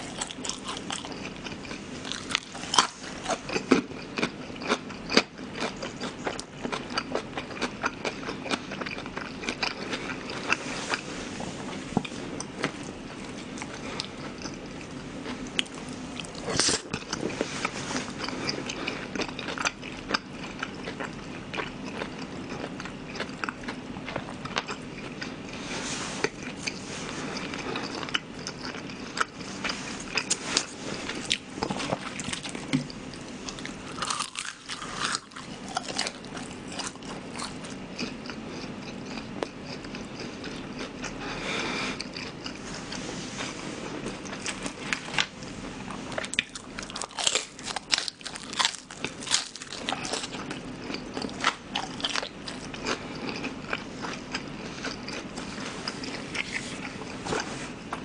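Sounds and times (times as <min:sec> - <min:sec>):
chewing fried food crunching: 0:00.0 - 0:58.0.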